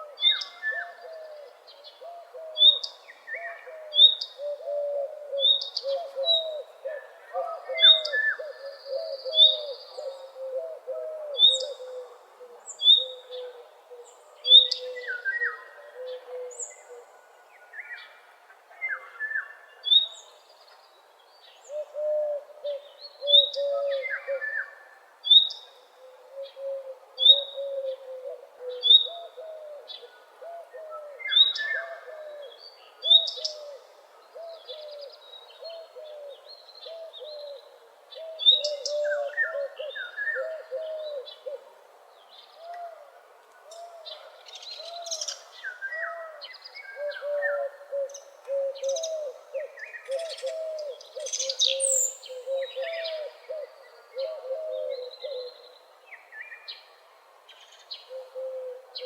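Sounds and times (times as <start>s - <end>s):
birds singing: 0.0s - 56.9s.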